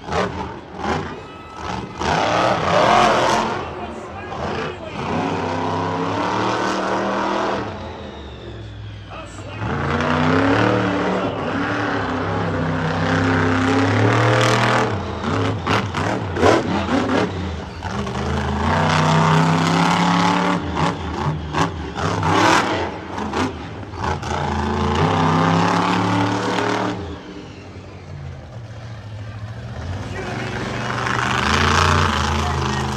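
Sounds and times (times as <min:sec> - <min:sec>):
monster truck engine revving: 0:00.0 - 0:32.9.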